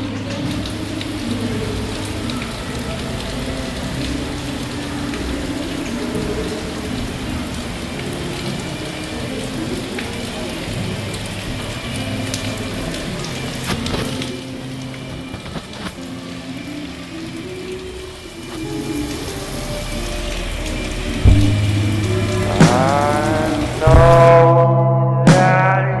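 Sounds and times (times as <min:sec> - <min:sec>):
steady rain falling: 0:00.0 - 0:24.5.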